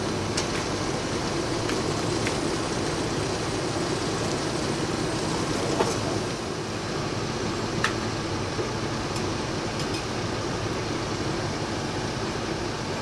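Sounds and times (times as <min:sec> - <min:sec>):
city background hum: 0:00.0 - 0:13.0.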